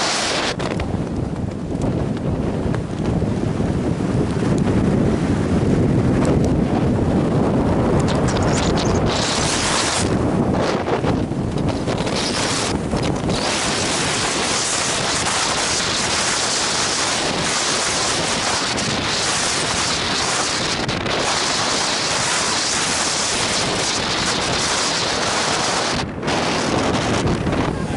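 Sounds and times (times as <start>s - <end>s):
strong wind on microphone: 0.0s - 27.9s.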